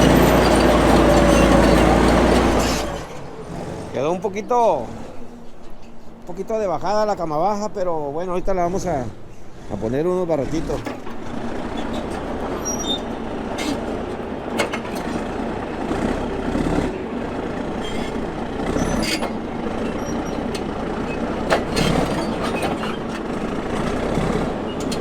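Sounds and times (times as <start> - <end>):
heavy diesel machinery running: 0.0 - 7.1, 8.6 - 25.0.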